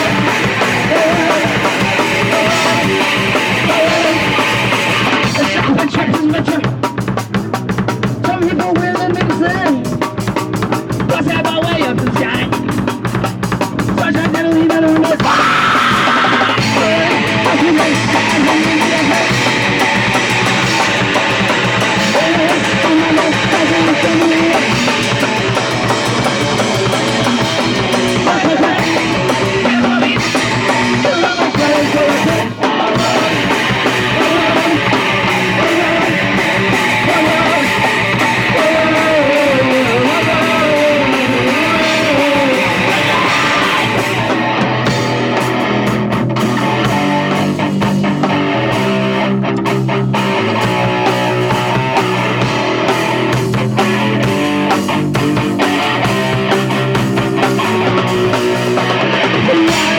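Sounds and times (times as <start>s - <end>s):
distorted electric guitar: 0.0s - 59.9s
fast drum kit: 0.0s - 59.9s
punk rock band playing: 0.0s - 59.9s.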